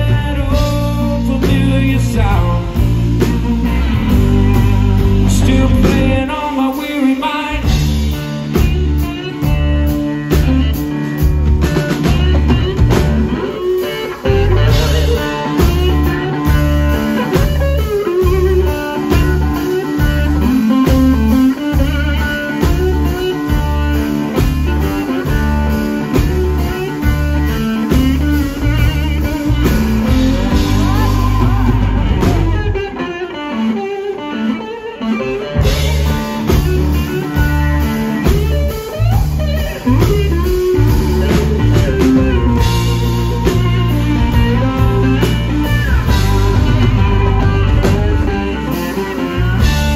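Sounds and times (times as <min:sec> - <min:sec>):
bass guitar: 0:00.0 - 0:49.9
drums: 0:00.0 - 0:49.9
electric guitar: 0:00.0 - 0:49.9.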